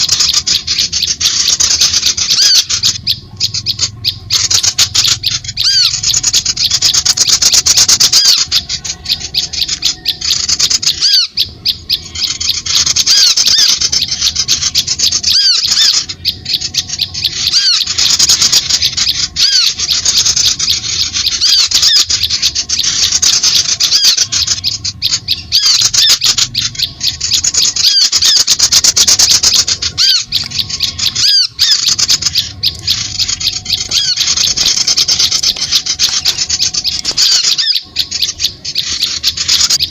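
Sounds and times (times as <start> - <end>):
harsh bird chattering: 0.0 - 39.9.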